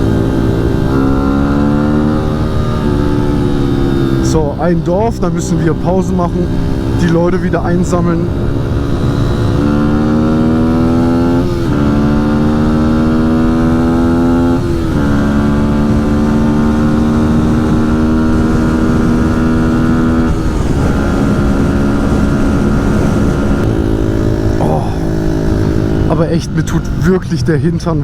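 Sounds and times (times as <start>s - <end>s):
dirt bike engine shifting gears: 0.0s - 27.1s.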